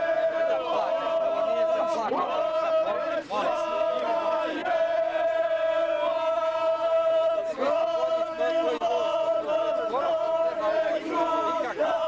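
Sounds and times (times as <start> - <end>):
group singing folk chant: 0.0 - 12.0.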